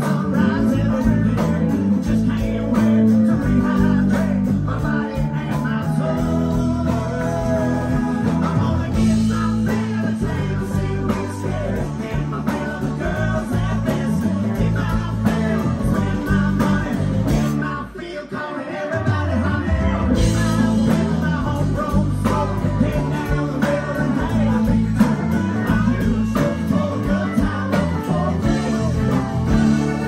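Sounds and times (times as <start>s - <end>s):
country-rock band playing: 0.0s - 30.0s.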